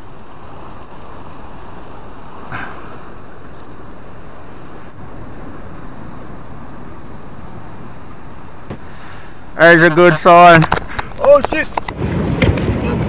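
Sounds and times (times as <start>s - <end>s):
wind on microphone: 0.0s - 9.6s, 10.6s - 13.0s
ocean surf on rocks: 0.0s - 13.0s.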